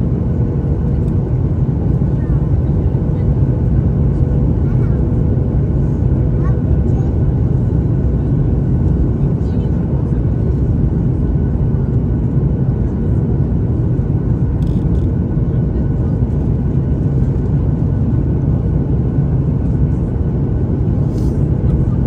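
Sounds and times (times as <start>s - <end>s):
airplane cabin roar: 0.0s - 22.0s.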